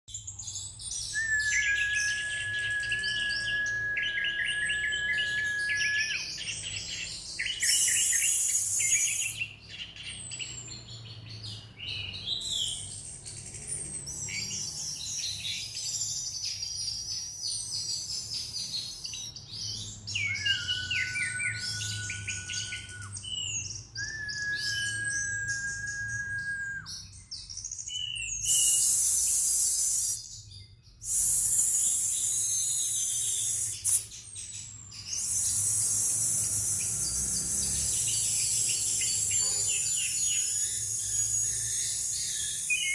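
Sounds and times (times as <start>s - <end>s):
thrush singing chirps and trills: 0.1s - 42.9s
long whistled bird notes: 0.8s - 10.4s, 14.1s - 27.2s, 27.9s - 42.9s.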